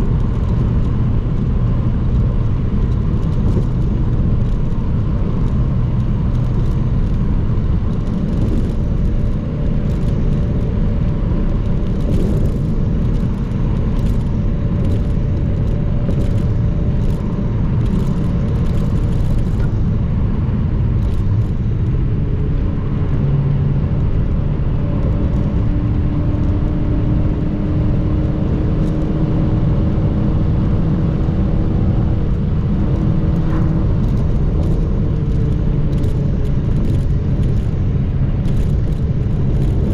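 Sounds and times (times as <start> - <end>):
car engine and raspy exhaust: 0.0 - 39.9.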